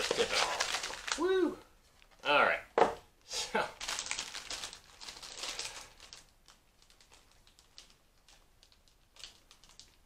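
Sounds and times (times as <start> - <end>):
plastic wrappers crinkling: 0.0 - 2.3, 3.8 - 10.0.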